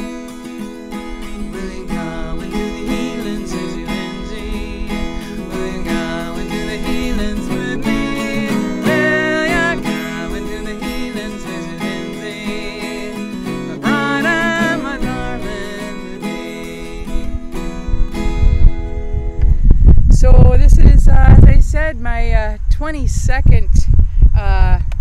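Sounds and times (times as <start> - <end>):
acoustic guitar playing: 0.0 - 20.4.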